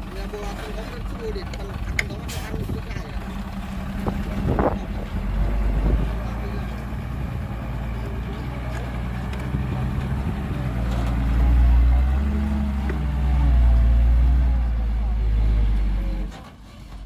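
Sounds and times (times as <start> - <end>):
heavy diesel engine drone: 0.0 - 17.0.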